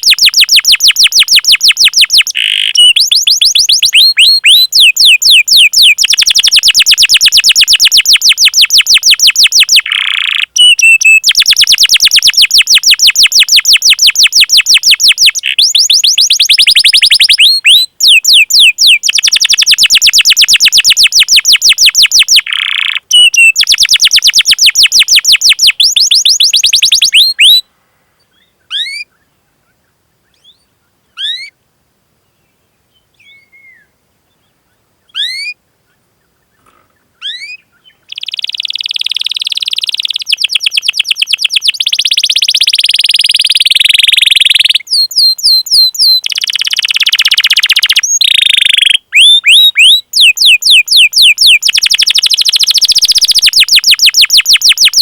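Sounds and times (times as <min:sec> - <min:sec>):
canary singing: 0:00.0 - 0:27.6, 0:28.4 - 0:29.2, 0:30.3 - 0:31.6, 0:35.1 - 0:35.6, 0:37.2 - 0:55.0.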